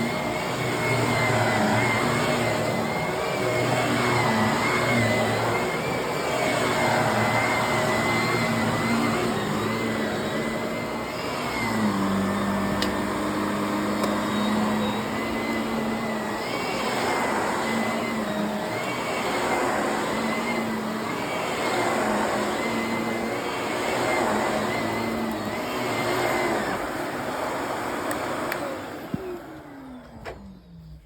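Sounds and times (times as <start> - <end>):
vacuum cleaner motor whine: 0.0 - 31.0.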